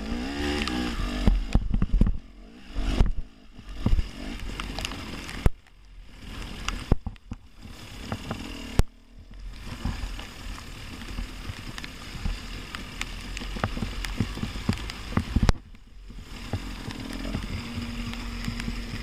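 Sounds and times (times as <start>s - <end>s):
dirt bike engine: 0.0s - 19.0s
rain and mud spattering: 3.1s - 19.0s.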